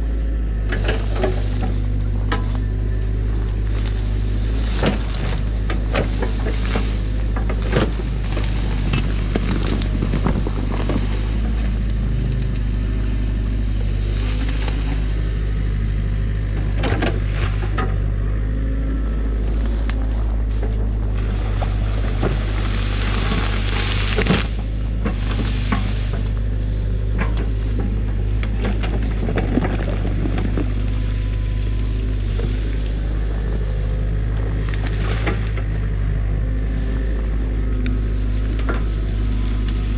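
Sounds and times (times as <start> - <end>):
diesel engine running steadily: 0.0 - 39.9
dry reeds rustling: 0.0 - 39.9.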